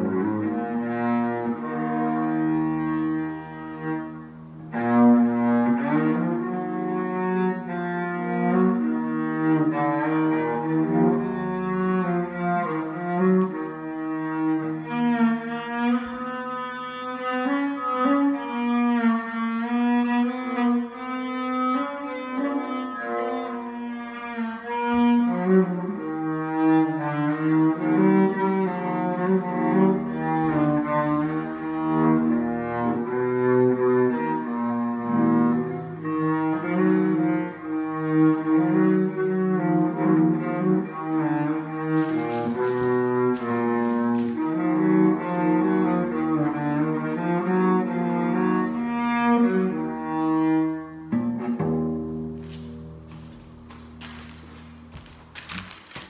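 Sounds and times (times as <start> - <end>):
solo cello melody: 0.0 - 56.0.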